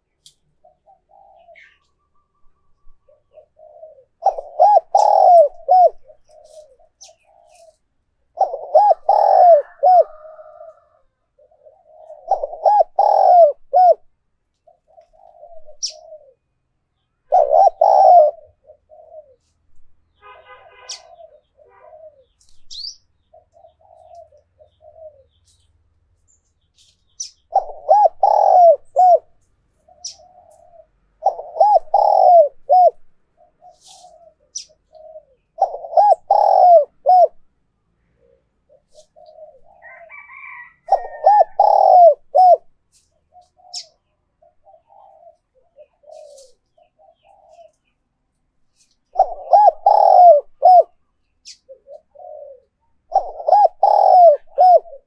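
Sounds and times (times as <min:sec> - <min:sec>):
dove cooing: 0:00.0 - 0:16.6, 0:17.3 - 0:19.6, 0:20.6 - 0:25.6, 0:27.1 - 0:48.0, 0:48.8 - 0:55.0
small birds chirping: 0:00.0 - 0:55.0.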